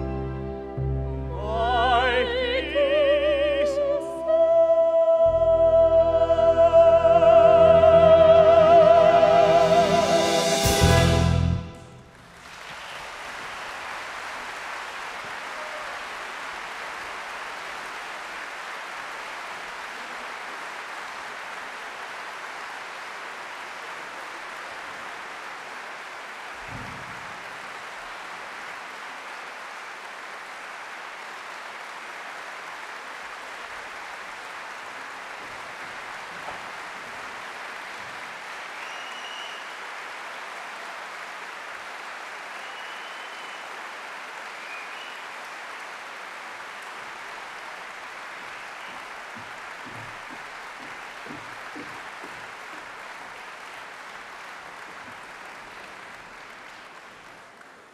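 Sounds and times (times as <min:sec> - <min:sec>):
audience applauding: 0:10.7 - 0:57.9.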